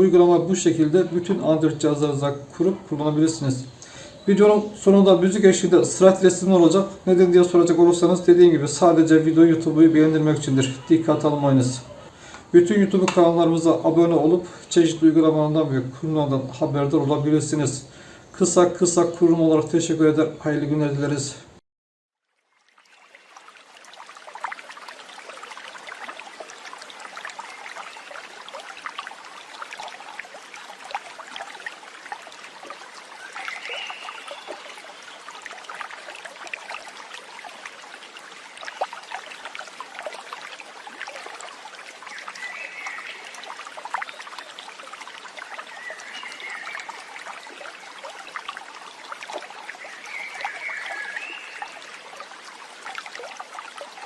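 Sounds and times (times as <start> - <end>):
stream water trickling: 0.0 - 21.5, 22.2 - 54.0.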